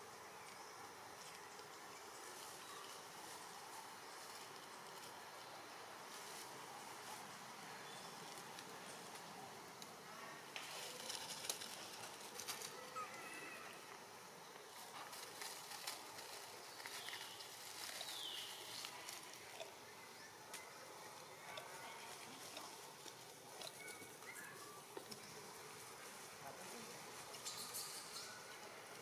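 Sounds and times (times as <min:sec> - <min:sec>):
monkeys rustling over leaves: 0:01.2 - 0:09.6, 0:10.4 - 0:14.0, 0:14.6 - 0:29.0.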